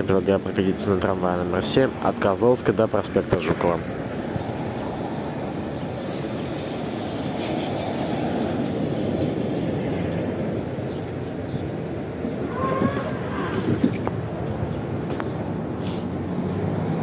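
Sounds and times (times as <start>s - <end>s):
tram wheels rumbling on rails: 0.0s - 15.8s.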